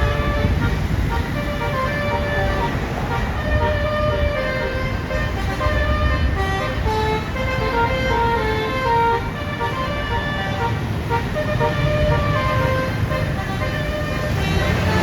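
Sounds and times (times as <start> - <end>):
bus engine rumble: 0.0 - 15.0
multi-tone air horn tune: 0.0 - 15.0
traffic: 0.0 - 15.0.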